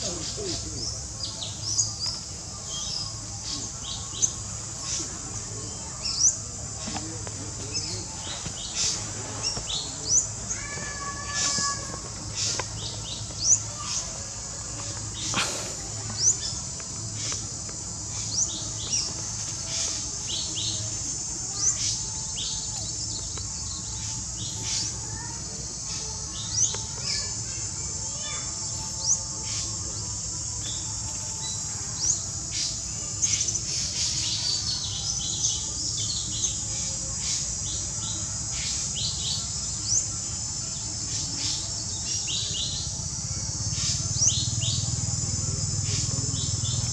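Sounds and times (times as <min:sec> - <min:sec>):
high insect buzz: 0:00.0 - 0:46.9.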